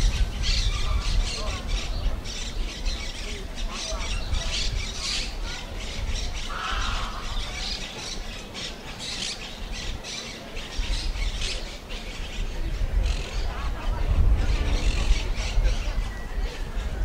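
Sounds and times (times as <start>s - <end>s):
birds squawking: 0.0s - 16.9s.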